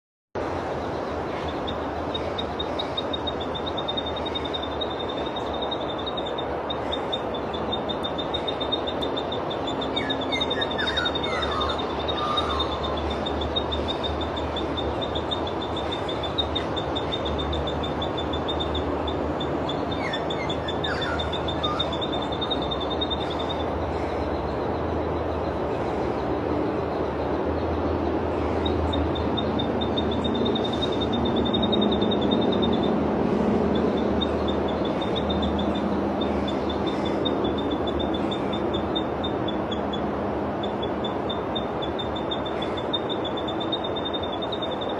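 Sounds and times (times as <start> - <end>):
rushing background noise: 0.4 - 44.9.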